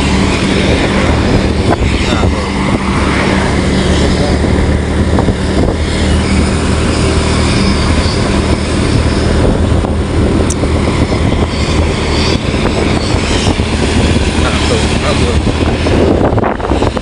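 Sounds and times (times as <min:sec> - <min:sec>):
loud rushing noise: 0:00.0 - 0:17.0
vehicle engine running: 0:00.0 - 0:17.0.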